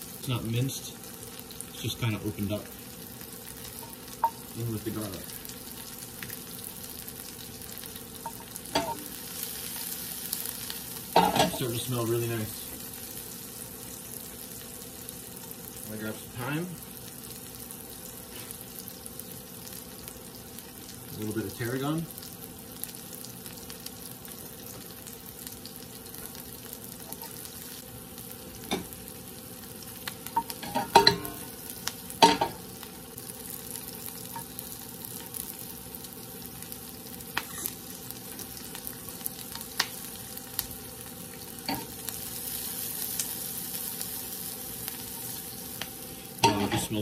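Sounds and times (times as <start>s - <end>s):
vegetables sizzling in a pan: 0.0s - 47.0s.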